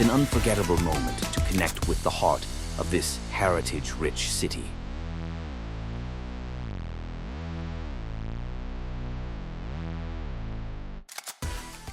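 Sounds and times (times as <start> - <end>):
electronic music with synthesizer pads: 0.0 - 11.9.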